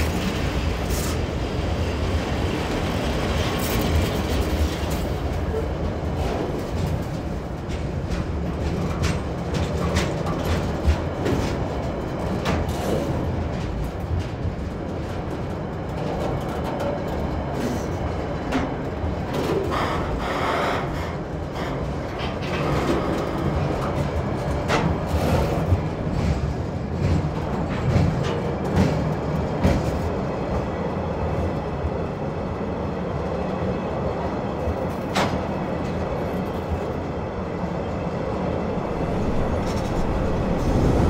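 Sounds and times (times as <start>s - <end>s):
wheels clanking on rails: 0.0s - 30.7s, 34.0s - 41.0s
freight train rumbling on bridge: 0.0s - 41.0s.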